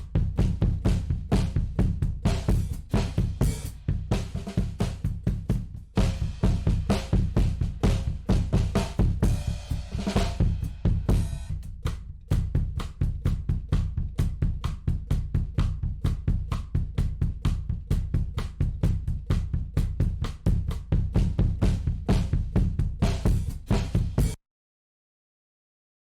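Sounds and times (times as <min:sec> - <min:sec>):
drum kit playing a groove: 0:00.0 - 0:24.4.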